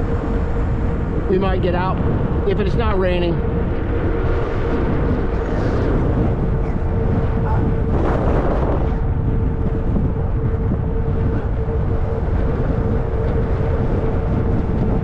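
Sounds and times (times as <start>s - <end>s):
low rumble: 0.0s - 15.0s
thin steady hum: 0.0s - 15.0s
wind buffeting microphone: 0.0s - 15.0s.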